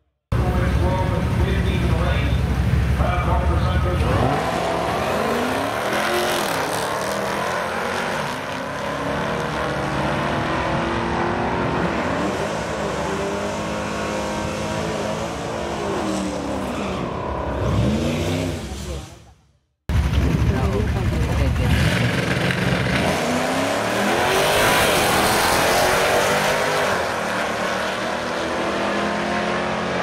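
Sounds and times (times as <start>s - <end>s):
drag car engines at full throttle: 0.3s - 30.0s.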